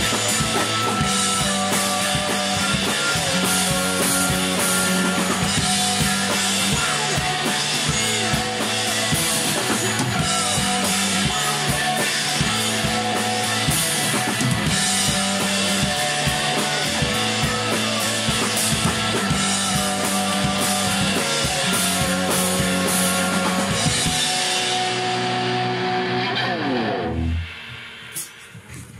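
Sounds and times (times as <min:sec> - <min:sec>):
electric guitars: 0:00.0 - 0:28.4
bass guitar: 0:00.0 - 0:28.9
drum kit: 0:00.0 - 0:28.9.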